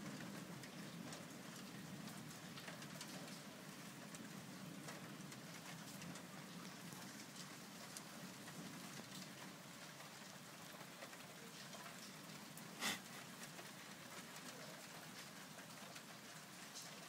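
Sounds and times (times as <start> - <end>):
faint steady rain: 0.0 - 17.0
raindrop ticks: 0.0 - 17.0.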